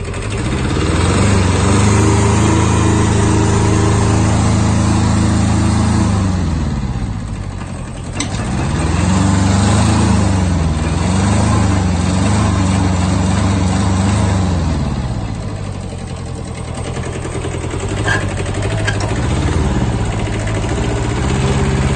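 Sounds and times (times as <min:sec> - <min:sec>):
tractor diesel engine revving: 0:00.0 - 0:21.9.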